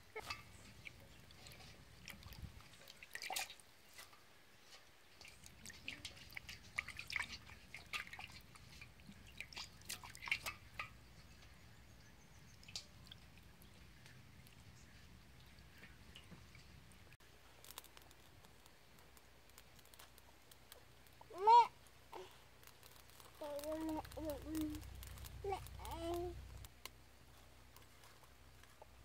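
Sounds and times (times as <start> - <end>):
water dripping from colander: 0.0 - 29.0.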